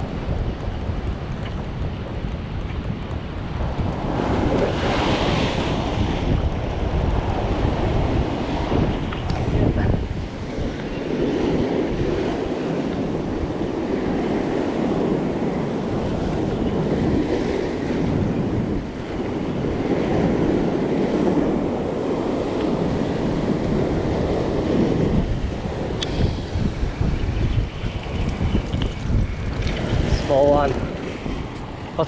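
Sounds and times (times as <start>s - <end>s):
wind buffeting microphone: 0.0s - 32.0s
surf breaking on rocks: 3.2s - 32.0s.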